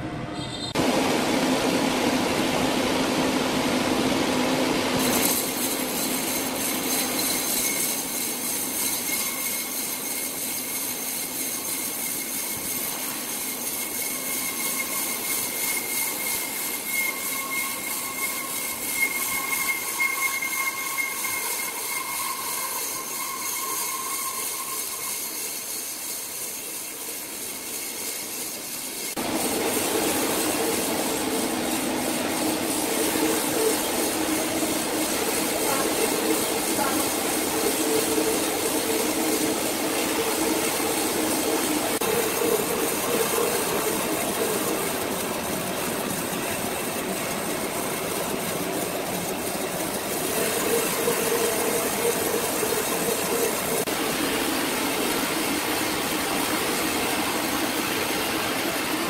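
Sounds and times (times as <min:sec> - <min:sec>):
high-pitched whine: 0:00.0 - 0:59.0
sawmill machinery running: 0:00.7 - 0:59.0.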